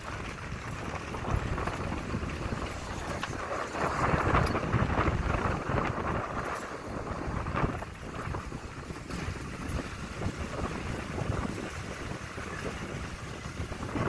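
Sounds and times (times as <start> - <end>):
vehicle engine and road noise: 0.0 - 14.0
wind buffeting microphone: 0.0 - 14.0.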